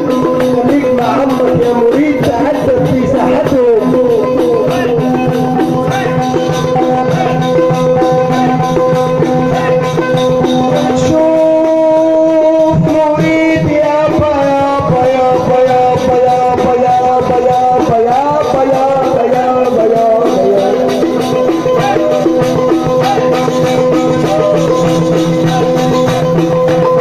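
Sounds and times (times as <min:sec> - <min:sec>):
hand percussion with jingles: 0:00.0 - 0:27.0
ornamented melody long notes: 0:00.0 - 0:27.0.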